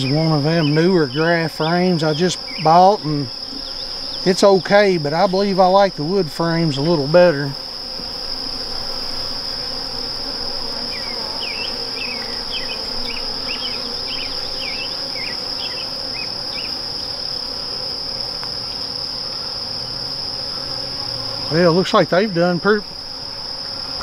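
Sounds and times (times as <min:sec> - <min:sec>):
high-pitched insect drone: 0:00.0 - 0:24.0
honeybees buzzing: 0:00.0 - 0:24.0.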